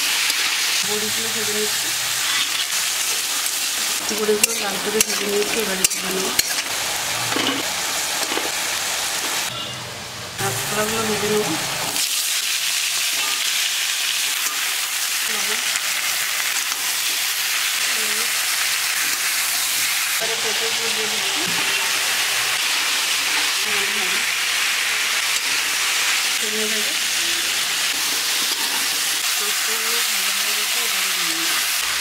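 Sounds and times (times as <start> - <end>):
vegetables sizzling in hot oil: 0.0 - 9.5, 10.4 - 32.0.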